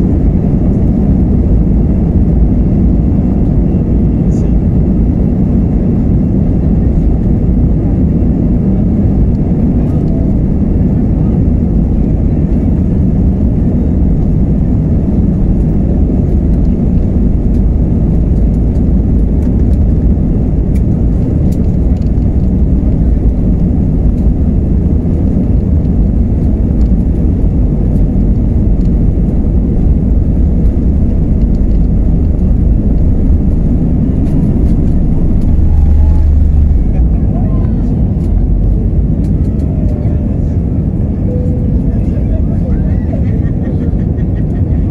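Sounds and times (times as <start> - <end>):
jet engines roaring: 0.0 - 44.9
runway rumble: 0.0 - 44.9.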